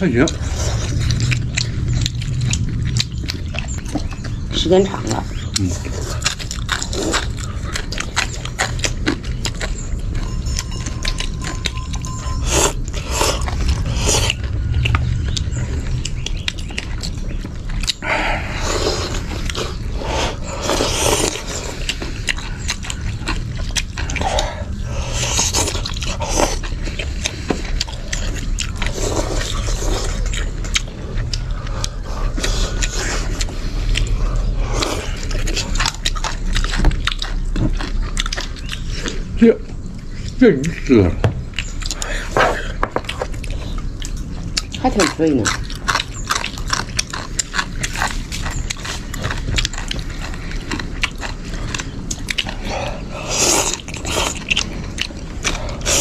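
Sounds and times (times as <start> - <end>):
chewing crunchy food: 0.0 - 56.0
steady low hum: 0.0 - 56.0.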